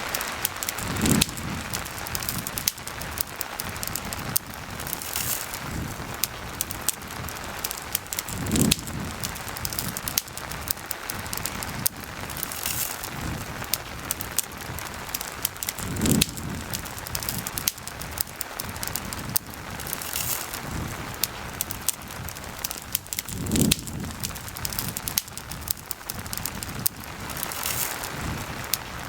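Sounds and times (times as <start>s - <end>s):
campfire crackling: 0.0s - 29.0s
low rumbling: 0.0s - 29.0s
rain falling: 0.0s - 29.0s.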